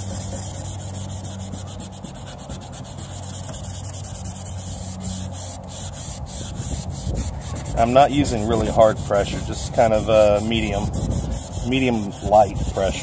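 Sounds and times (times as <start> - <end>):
steady low hum: 0.0 - 13.0
wet sandpaper scrubbing plastic: 0.0 - 13.0.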